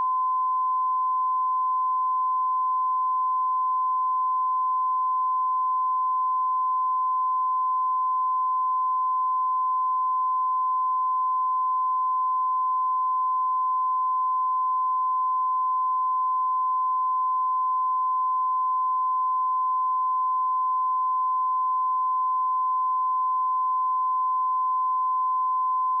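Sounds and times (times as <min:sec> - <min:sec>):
sine wave test tone: 0:00.0 - 0:26.0.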